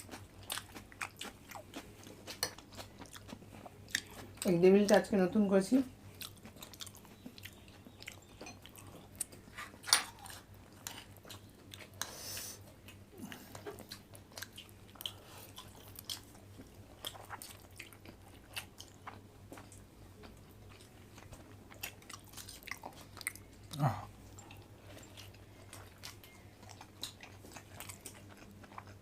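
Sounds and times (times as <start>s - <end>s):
people chewing crunchy food: 0.0s - 5.0s, 6.0s - 29.0s.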